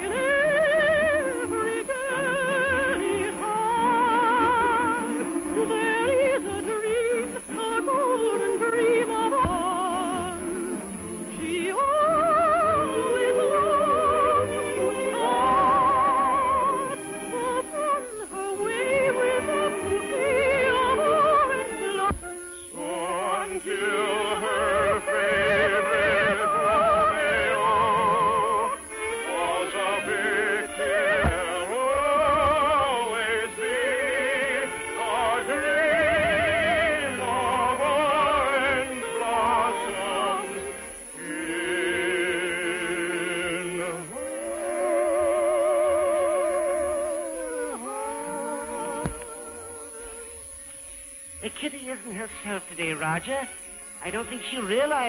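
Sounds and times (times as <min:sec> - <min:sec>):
operatic singing: 0:00.0 - 0:50.6
orchestral accompaniment: 0:00.0 - 0:55.0.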